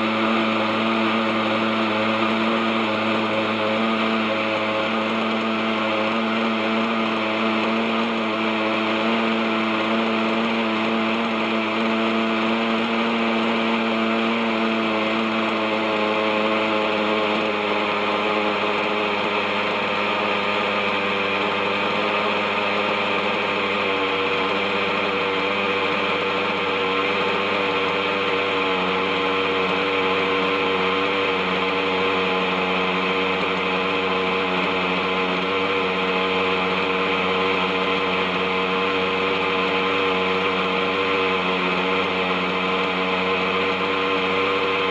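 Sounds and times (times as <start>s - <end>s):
model helicopter engine running: 0.0s - 44.9s.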